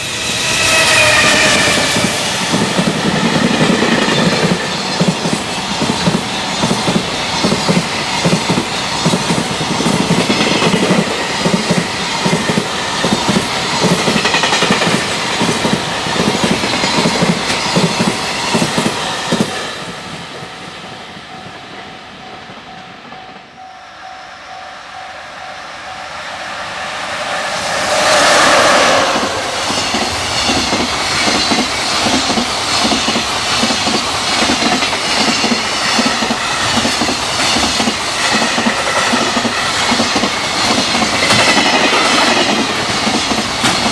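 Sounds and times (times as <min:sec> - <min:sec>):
electric locomotive passing: 0:00.0 - 0:43.9.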